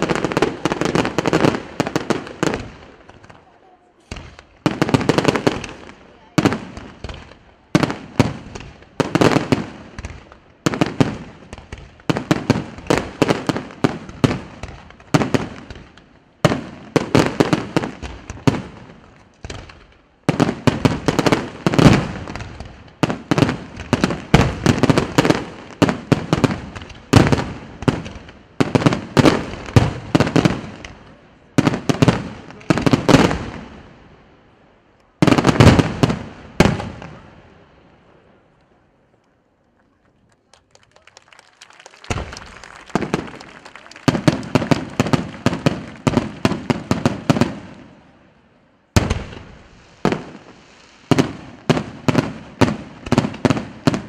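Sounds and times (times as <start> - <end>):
fireworks bursting: 0.0 - 34.0, 35.1 - 38.2, 40.6 - 48.2, 48.9 - 54.0.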